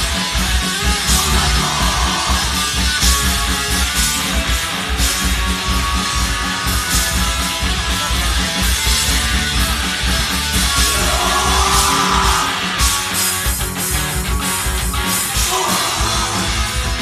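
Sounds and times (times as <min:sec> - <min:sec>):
punk band playing live: 0:00.0 - 0:17.0.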